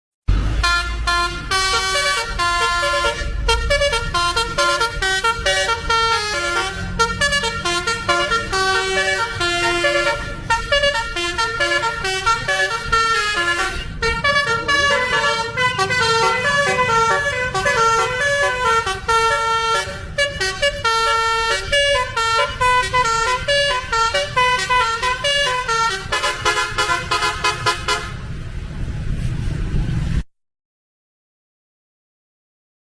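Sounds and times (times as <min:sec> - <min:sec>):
musical air horn playing tune: 0:00.6 - 0:28.2.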